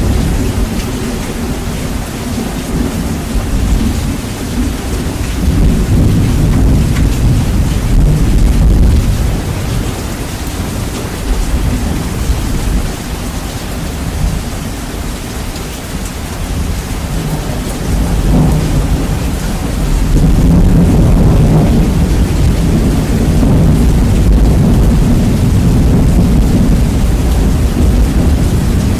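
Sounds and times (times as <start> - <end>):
rain falling: 0.0 - 28.9
rolling thunder: 0.0 - 28.9.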